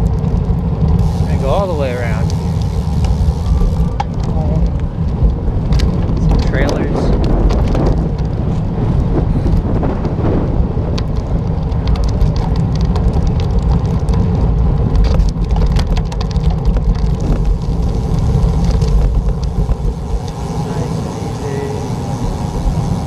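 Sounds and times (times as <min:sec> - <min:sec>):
small clicks and rattles: 0:00.0 - 0:08.4, 0:11.0 - 0:23.0
bicycle tyre road noise: 0:00.0 - 0:23.0
wind buffeting microphone: 0:00.0 - 0:23.0.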